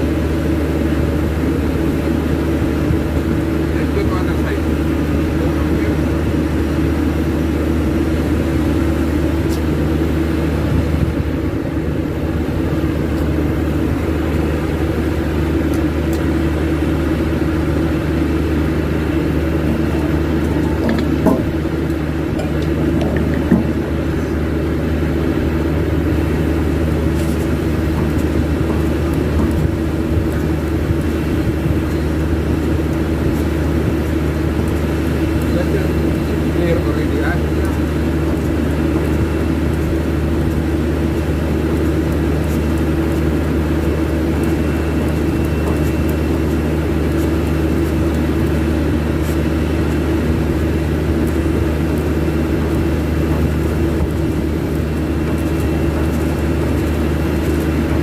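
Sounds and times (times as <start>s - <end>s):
machinery droning hum: 0.0s - 58.0s.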